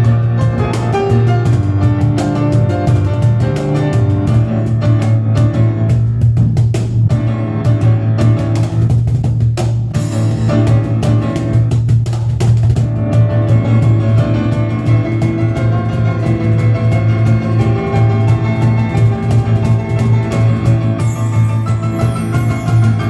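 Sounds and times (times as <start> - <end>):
cajon strikes: 0.0 - 23.0
piano chords: 0.0 - 23.0.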